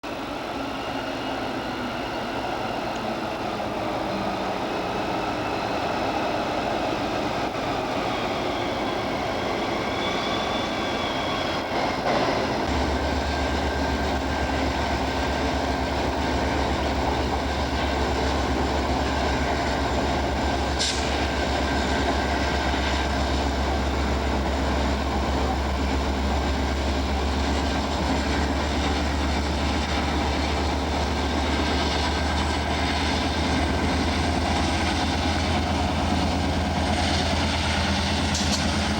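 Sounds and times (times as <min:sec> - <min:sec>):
locomotive engine running: 0:00.0 - 0:38.9.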